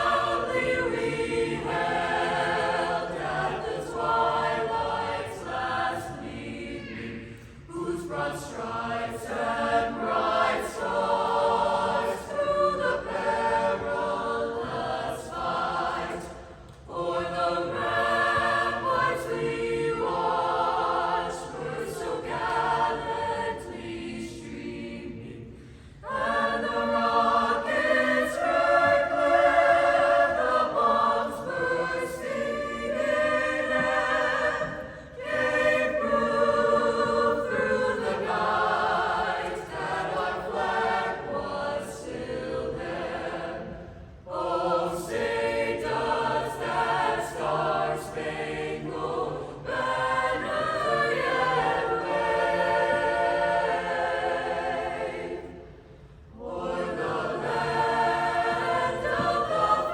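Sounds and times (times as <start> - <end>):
choir singing an anthem: 0.0 - 59.9.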